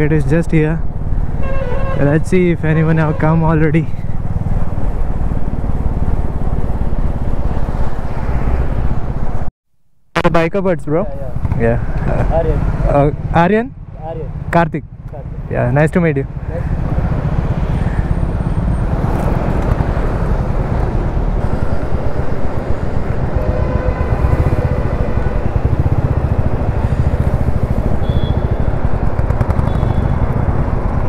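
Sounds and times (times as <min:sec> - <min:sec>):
wind and road noise: 0:00.0 - 0:09.5, 0:10.2 - 0:31.0
motorcycle engine running: 0:00.8 - 0:07.6, 0:11.2 - 0:31.0.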